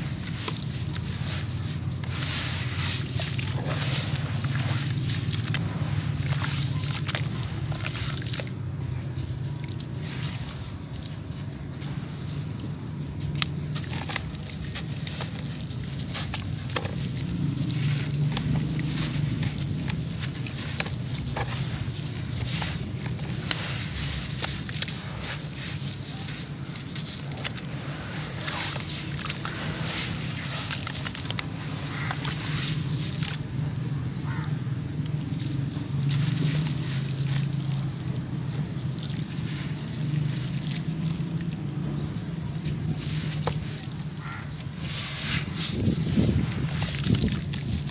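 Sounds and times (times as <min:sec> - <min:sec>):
muddy water sloshing: 0:00.0 - 0:47.9
wet sand squishing: 0:00.0 - 0:47.9.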